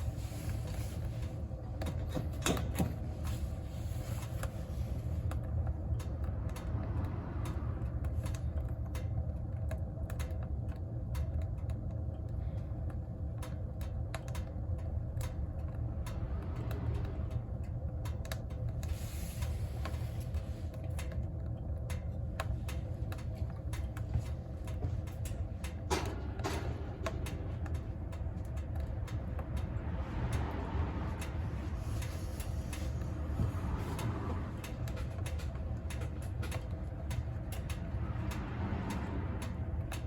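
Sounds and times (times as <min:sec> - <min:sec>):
low rumble of fire: 0:00.0 - 0:40.0.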